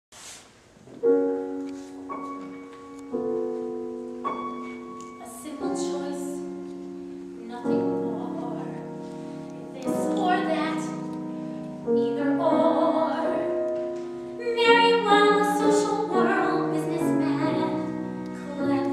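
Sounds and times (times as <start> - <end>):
grand piano chords ringing: 1.0 - 18.9.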